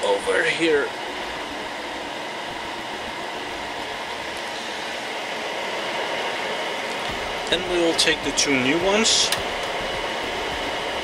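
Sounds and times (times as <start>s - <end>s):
computer cooling fans whirring: 0.0s - 11.0s.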